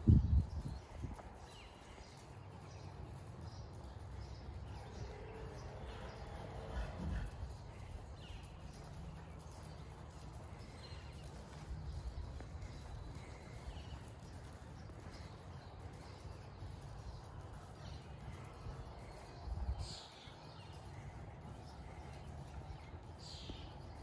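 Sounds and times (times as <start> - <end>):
small birds chirping: 0.0 - 24.0
hoofbeats on sand: 0.4 - 24.0.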